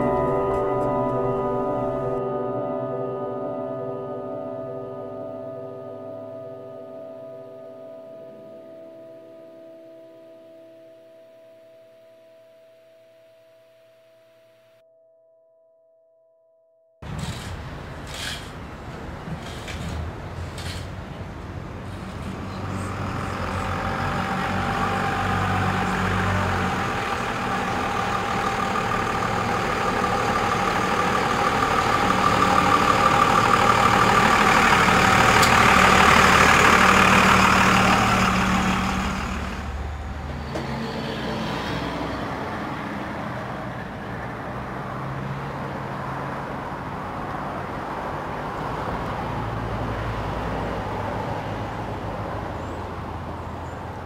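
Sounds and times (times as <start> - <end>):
vehicle engine hum: 0.0 - 10.7, 17.0 - 54.0
road noise: 0.0 - 11.9, 17.0 - 54.0.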